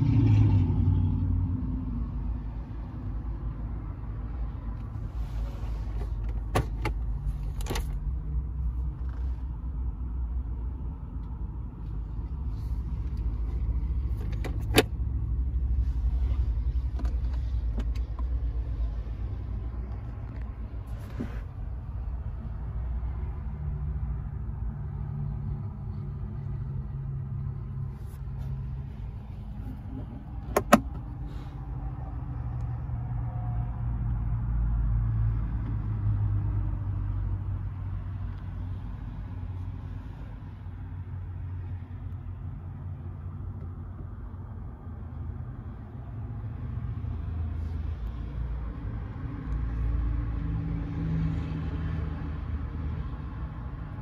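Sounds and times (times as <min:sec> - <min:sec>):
low rumble inside car cabin: 0:00.0 - 0:54.0.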